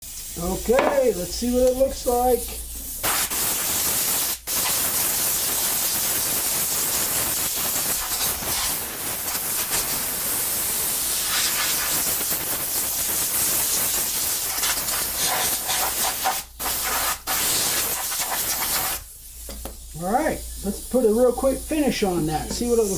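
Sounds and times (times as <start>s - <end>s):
compressed air hissing from blow gun: 0.0s - 22.9s.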